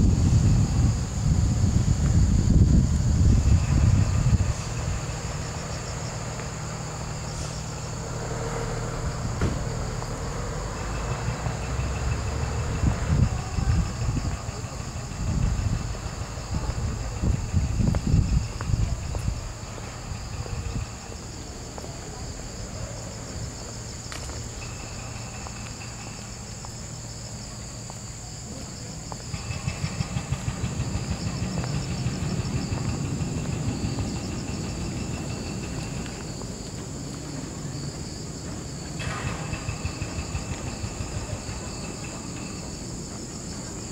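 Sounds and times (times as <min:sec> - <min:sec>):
low microphone rumble: 0:00.0 - 0:37.8
insects buzzing: 0:00.0 - 0:43.9
low pulsing insect trill: 0:00.0 - 0:43.9.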